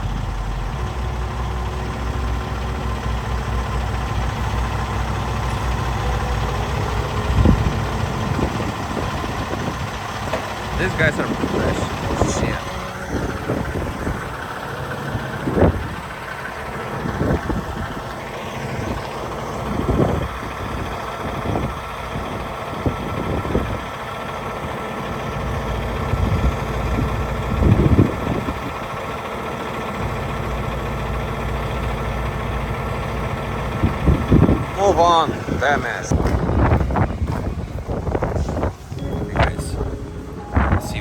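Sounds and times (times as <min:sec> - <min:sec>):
diesel truck engine idling: 0:00.0 - 0:41.0.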